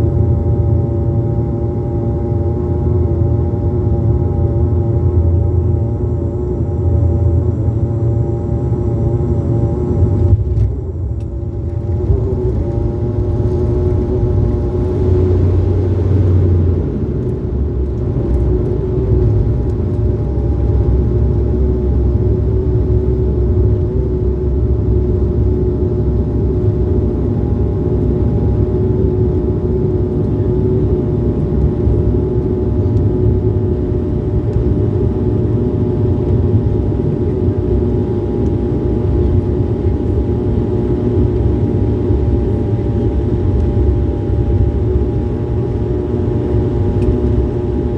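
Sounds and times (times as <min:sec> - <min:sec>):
airliner engine drone in cabin: 0:00.0 - 0:47.9
constant hum: 0:00.0 - 0:47.9.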